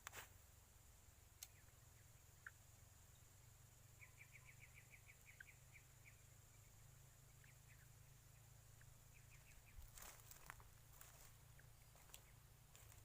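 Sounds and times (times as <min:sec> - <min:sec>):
faint bird chirping: 0:00.3 - 0:13.0.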